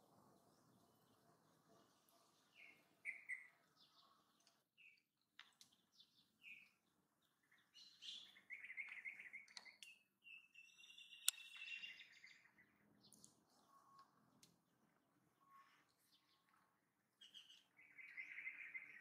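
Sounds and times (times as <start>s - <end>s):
small birds chirping and trilling: 0.4s - 19.0s.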